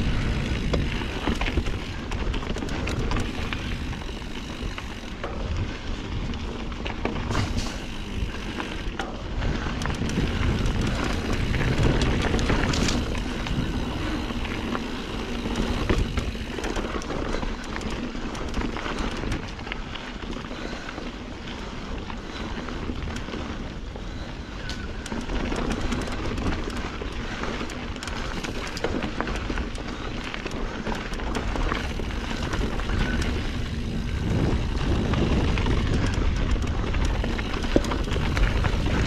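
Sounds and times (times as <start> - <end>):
bike rattling and knocking: 0.0 - 39.0
bike tyres crunching on dirt: 0.0 - 39.0
wind buffeting microphone: 0.0 - 39.0.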